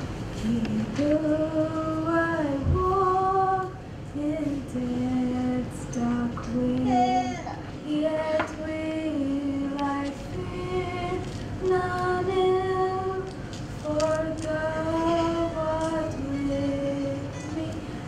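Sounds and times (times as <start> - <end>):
girls singing into a microphone: 0.4 - 18.0.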